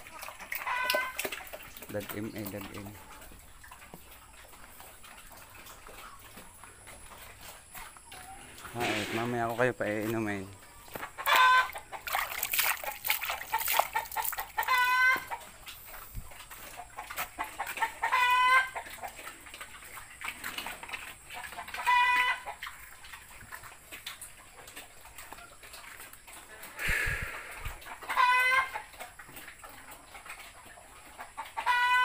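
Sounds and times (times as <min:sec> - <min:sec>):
chickens calling: 0:00.0 - 0:32.0.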